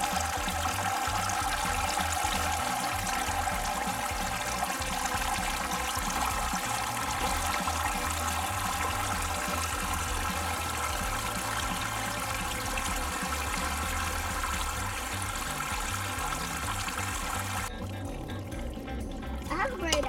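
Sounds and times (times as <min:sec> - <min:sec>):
hose water splashing into basin: 0:00.0 - 0:20.0
water trickling through chutes: 0:00.0 - 0:20.0.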